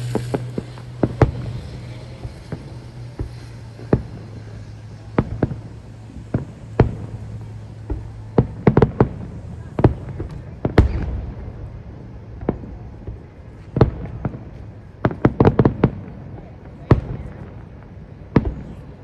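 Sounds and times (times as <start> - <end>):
fireworks bangs: 0.0 - 19.0
steady low hum: 0.0 - 19.0.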